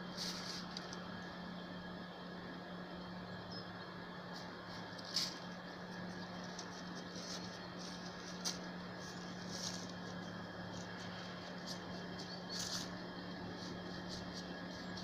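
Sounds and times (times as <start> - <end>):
low hum: 0.0 - 15.0
dry leaves crackling: 0.1 - 1.5, 4.3 - 15.0.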